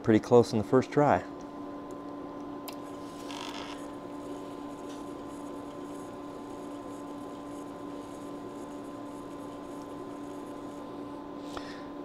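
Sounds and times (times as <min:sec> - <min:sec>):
floppy drive motor humming: 0:01.2 - 0:12.0.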